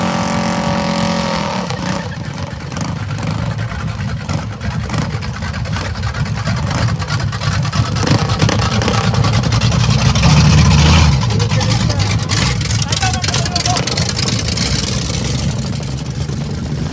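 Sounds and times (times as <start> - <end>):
minibike engines running hard: 1.8 - 16.9.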